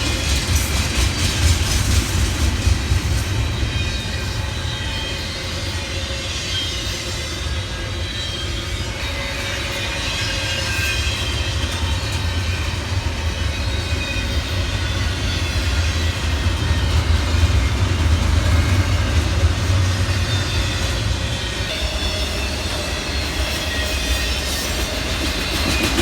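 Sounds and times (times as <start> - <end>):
train rumbling on tracks: 0.0 - 26.0.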